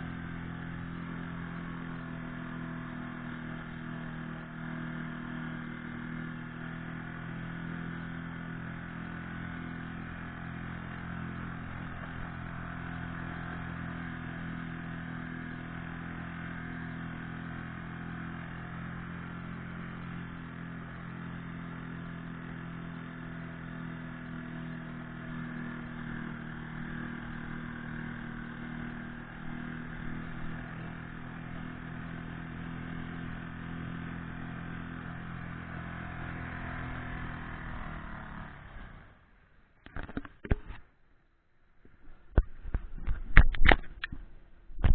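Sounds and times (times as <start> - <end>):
outboard motor running: 0.0 - 41.0, 41.8 - 44.9.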